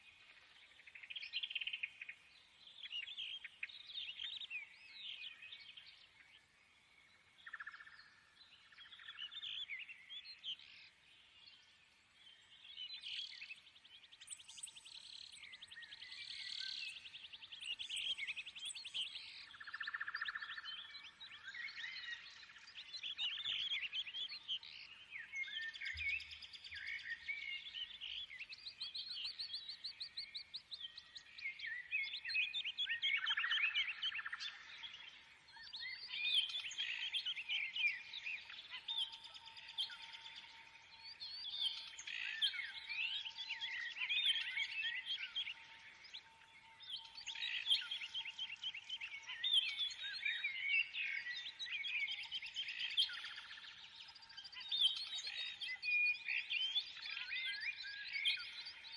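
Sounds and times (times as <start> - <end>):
birds chirping and trilling: 0.1 - 58.9.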